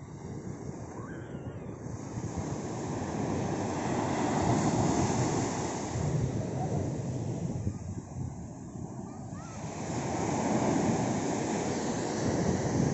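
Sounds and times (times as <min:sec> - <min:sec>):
small waves breaking on beach: 0:01.9 - 0:12.9.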